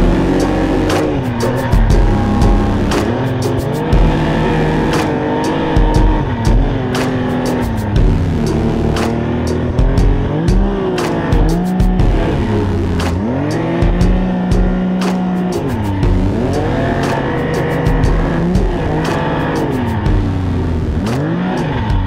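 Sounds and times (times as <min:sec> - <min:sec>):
sharp clicks and knocks: 0:00.0 - 0:22.0
snowmobile engine revving: 0:00.0 - 0:22.0.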